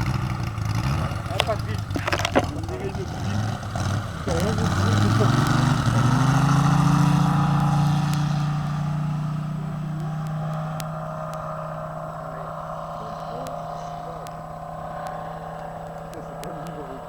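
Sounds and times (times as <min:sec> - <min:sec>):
model plane engine droning: 0:00.0 - 0:17.0.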